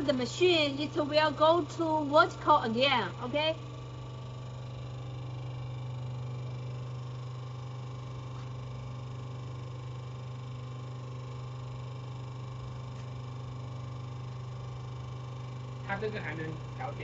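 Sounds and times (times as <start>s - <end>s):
crimping machine humming: 0.0s - 17.0s.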